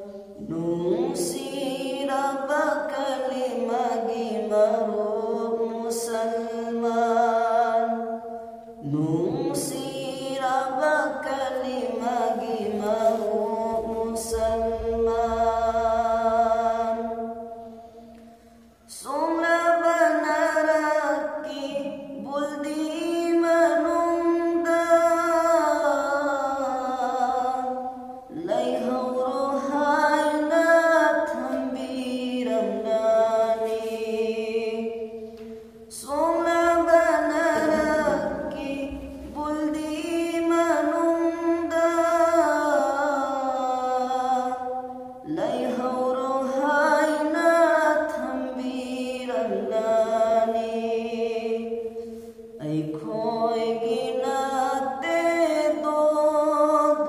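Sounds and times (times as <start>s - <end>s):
man singing devotional song: 0.0s - 8.0s, 8.7s - 17.3s, 18.9s - 57.0s.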